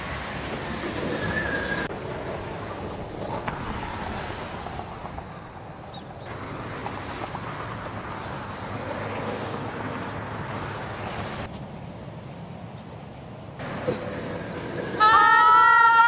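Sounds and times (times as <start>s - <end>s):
highway traffic rushing: 0.0s - 16.0s.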